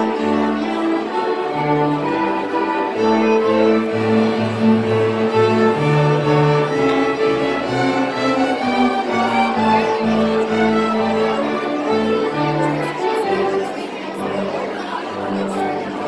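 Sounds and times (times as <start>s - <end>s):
string ensemble playing: 0.0s - 16.0s.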